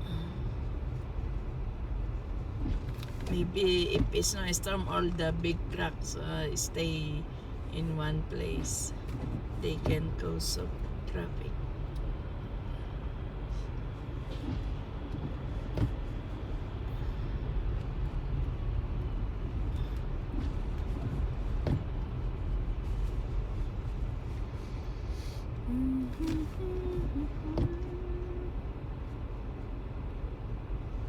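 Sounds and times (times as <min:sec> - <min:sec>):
car engine rumble: 0:00.0 - 0:31.0
road noise: 0:00.0 - 0:31.0.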